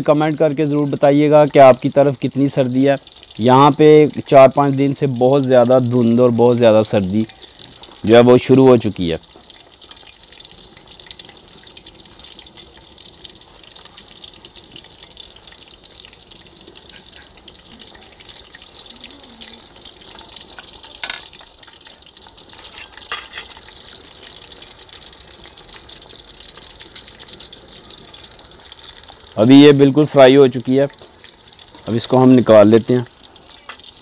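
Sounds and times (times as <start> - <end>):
fish deep-frying in oil: 0.0 - 34.0.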